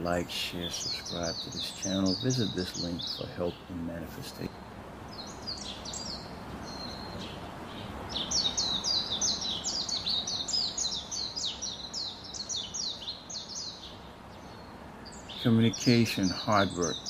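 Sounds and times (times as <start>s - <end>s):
bird chirping: 0.0s - 17.0s
outdoor ambience hiss: 0.0s - 17.0s.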